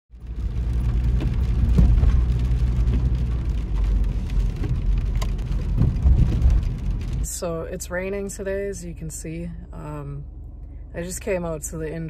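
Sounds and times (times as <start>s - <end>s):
car cabin road rumble: 0.1s - 12.0s.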